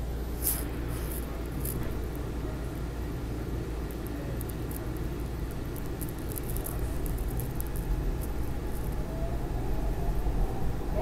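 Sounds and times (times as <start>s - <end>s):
faint train whine: 0.0s - 11.0s.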